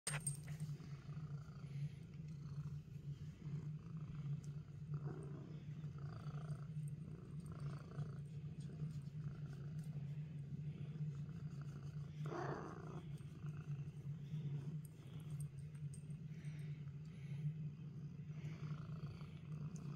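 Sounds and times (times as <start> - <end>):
cat purring: 0.2 - 19.9.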